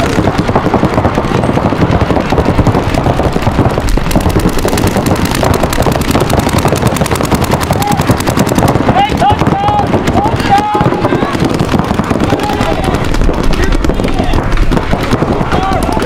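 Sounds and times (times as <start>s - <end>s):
paintball markers firing: 0.0s - 16.0s.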